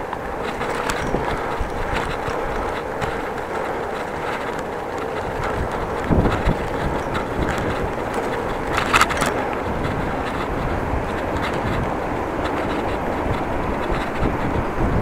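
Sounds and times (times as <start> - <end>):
bicycle rattle: 0.0 - 15.0
bicycle rolling on pavement: 0.0 - 15.0.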